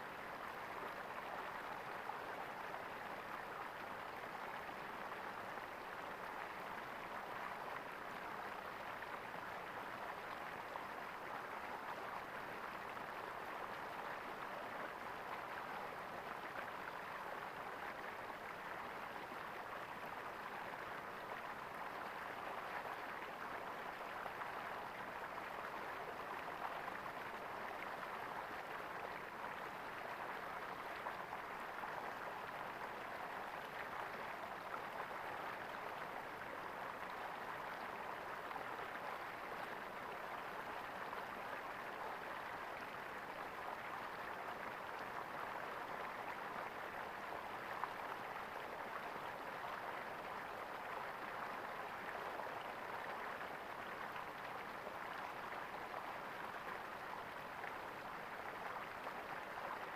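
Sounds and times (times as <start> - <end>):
stream water gurgling: 0.0 - 59.9.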